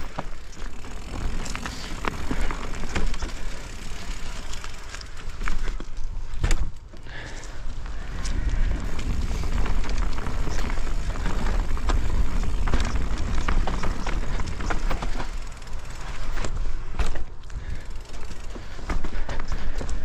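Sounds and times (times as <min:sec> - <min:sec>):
bike rattling and knocking: 0:00.0 - 0:20.0
bike tyre noise on dirt: 0:00.0 - 0:20.0.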